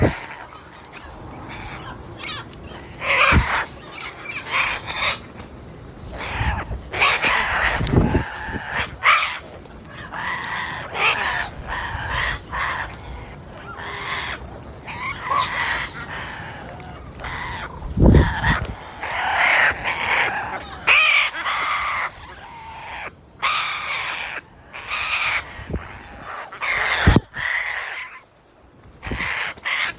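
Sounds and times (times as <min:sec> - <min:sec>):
parrots squawking: 0:00.0 - 0:05.5, 0:06.1 - 0:28.3, 0:29.0 - 0:29.9.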